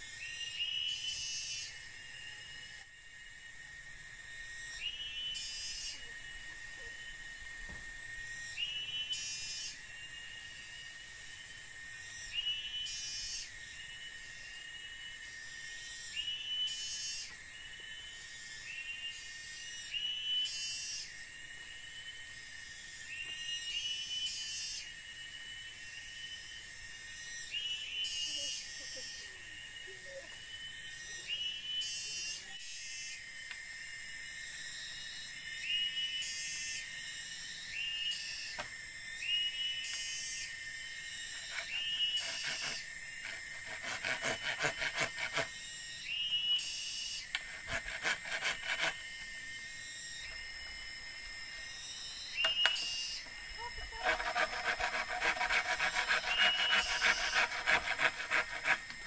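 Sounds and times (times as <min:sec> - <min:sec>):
cicada call rising in pitch: 0:00.0 - 0:59.0
cicadas droning: 0:00.0 - 0:59.0
insect chirping trills: 0:00.0 - 0:59.0
insect chorus high buzz: 0:00.0 - 0:59.0.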